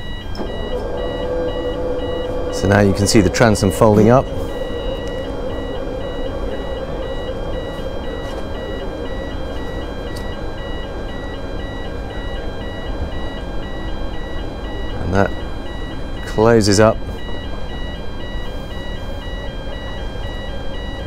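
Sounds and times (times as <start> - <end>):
steady low hum: 0.0 - 21.0
two-tone electronic warning alarm: 0.0 - 21.0.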